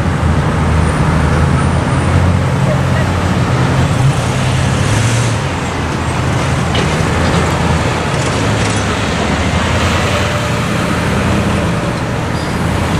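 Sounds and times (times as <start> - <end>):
cars and trucks driving past: 0.0 - 12.9.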